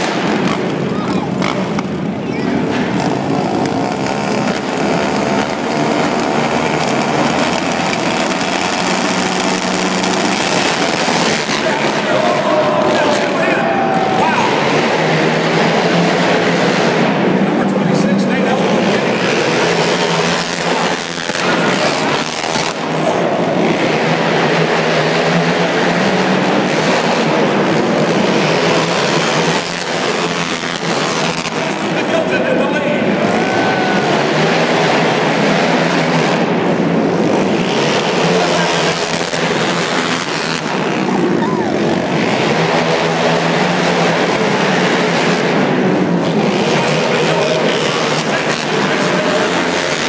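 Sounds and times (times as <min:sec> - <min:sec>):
quad engines revving: 0:00.0 - 0:50.0.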